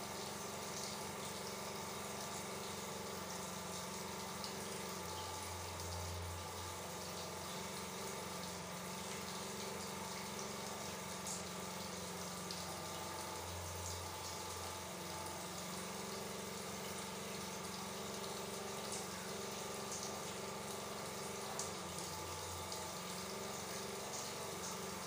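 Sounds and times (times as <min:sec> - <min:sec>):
water running from a tap: 0:00.0 - 0:25.0.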